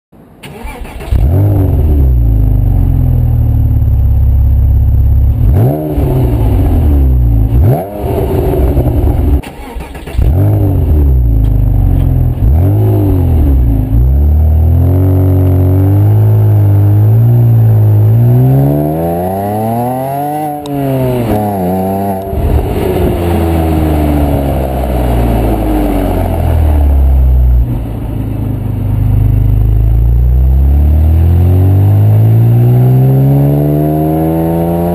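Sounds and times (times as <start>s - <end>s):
car engine idling and revving: 0.2s - 34.9s
car accelerating away: 0.4s - 4.2s, 5.0s - 34.9s.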